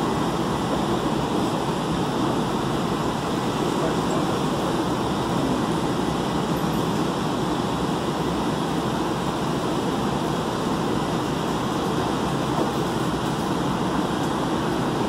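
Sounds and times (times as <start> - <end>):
low rushing hum inside train car: 0.0 - 15.0.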